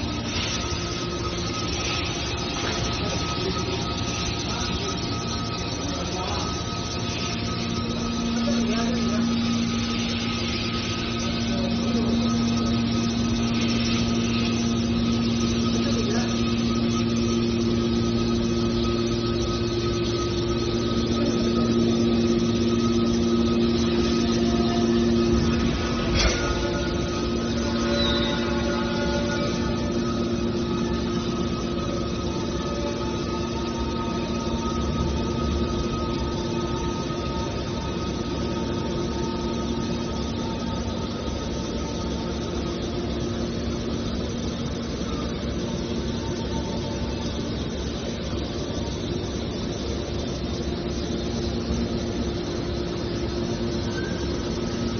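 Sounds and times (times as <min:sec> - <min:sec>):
hydraulic power unit humming: 0:00.0 - 0:54.9.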